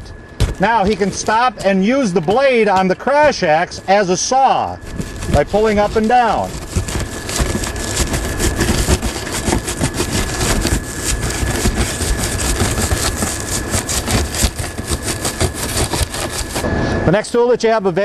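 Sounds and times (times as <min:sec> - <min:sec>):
thin steady whine: 0:00.0 - 0:18.0.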